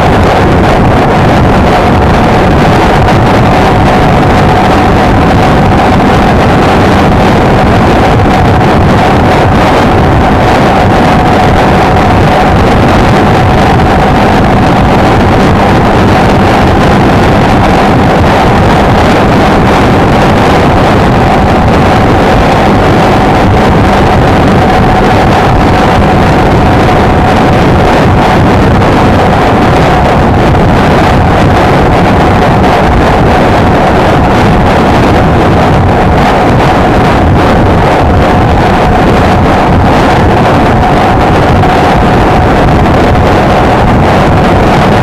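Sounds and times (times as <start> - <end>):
wind noise on microphone: 0.0 - 45.0.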